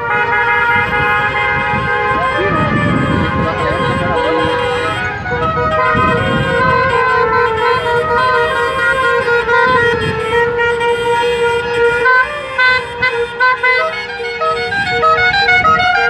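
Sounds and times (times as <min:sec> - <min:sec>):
car horns honking: 0:00.0 - 0:16.0
rumble of passing cars: 0:00.0 - 0:16.0.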